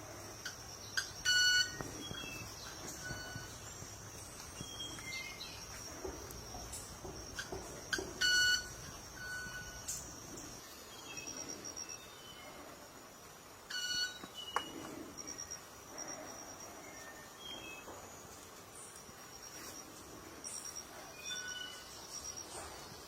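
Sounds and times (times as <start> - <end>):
high insect tone: 0.0 - 23.0.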